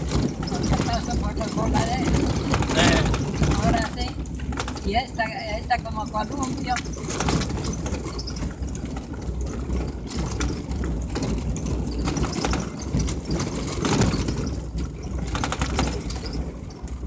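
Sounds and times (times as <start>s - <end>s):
vehicle interior rattles: 0.0s - 17.0s
vehicle rumbling on dirt road: 0.0s - 17.0s.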